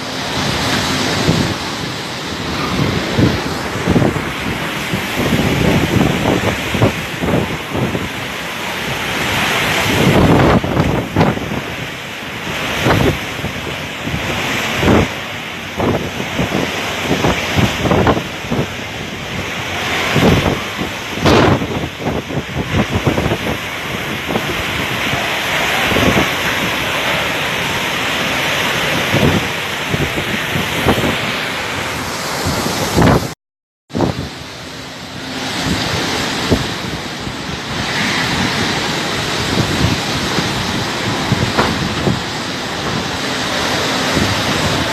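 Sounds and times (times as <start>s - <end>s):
driving rain: 0.0s - 44.9s
strong wind gusting: 0.0s - 44.9s.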